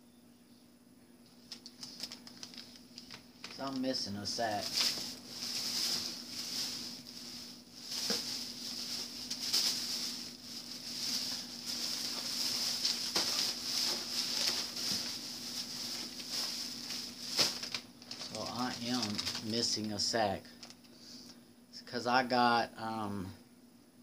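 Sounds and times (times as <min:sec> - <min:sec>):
low steady hum: 0:00.0 - 0:24.0
plastic bags rustling: 0:01.4 - 0:20.9.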